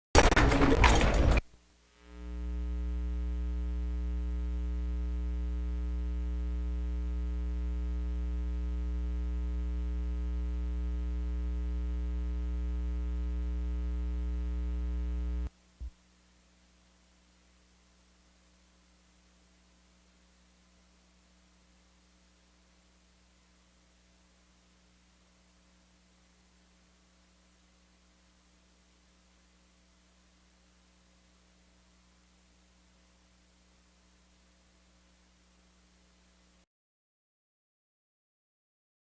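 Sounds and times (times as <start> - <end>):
electrical mains hum: 0.2 - 36.6.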